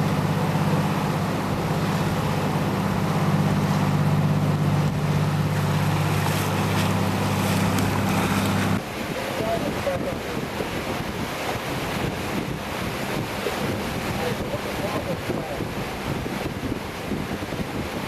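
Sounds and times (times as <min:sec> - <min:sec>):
boat engine droning: 0:00.0 - 0:18.0
water noise: 0:00.0 - 0:18.0
wind: 0:00.0 - 0:18.0.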